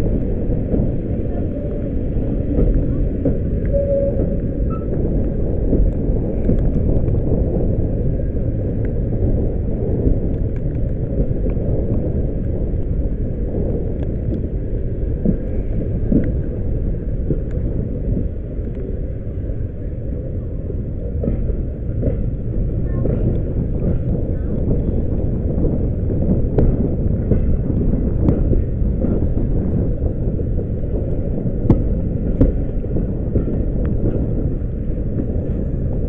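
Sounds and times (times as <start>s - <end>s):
train rumbling at speed: 0.0s - 36.0s.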